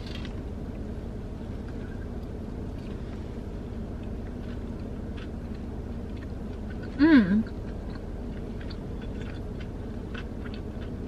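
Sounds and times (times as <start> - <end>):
car cabin hum: 0.0 - 11.0
faint chewing: 1.6 - 11.0.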